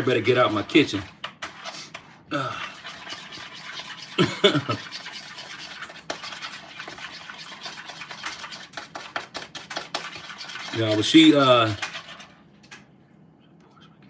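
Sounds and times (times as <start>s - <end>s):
utensil scraping a bowl: 0.0s - 12.4s.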